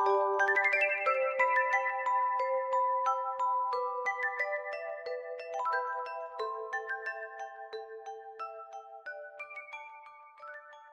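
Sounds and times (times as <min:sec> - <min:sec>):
bell-like melody: 0:00.0 - 0:10.9.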